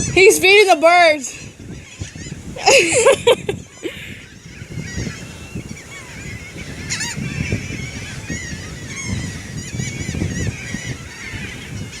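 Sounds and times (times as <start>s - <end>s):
birds squawking: 0.0s - 12.0s
wind buffeting microphone: 0.0s - 12.0s.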